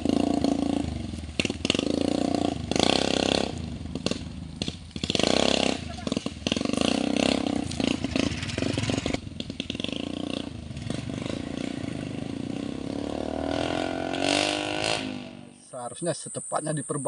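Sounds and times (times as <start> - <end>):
motorcycle engines revving: 0.0 - 15.8.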